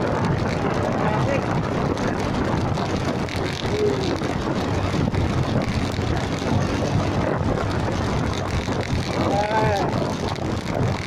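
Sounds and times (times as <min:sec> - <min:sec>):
road and traffic noise: 0:00.0 - 0:11.0
wind on microphone: 0:00.0 - 0:11.0.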